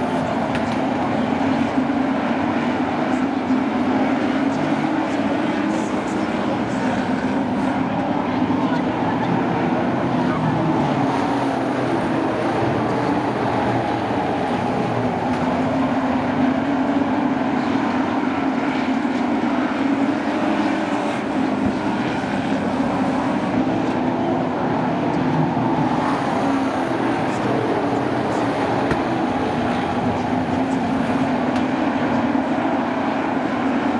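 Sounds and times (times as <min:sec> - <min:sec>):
truck engines droning: 0:00.0 - 0:33.9.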